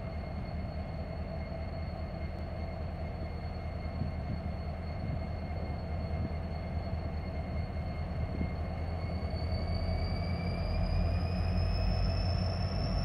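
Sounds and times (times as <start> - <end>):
diesel locomotive engine droning: 0.0 - 13.0.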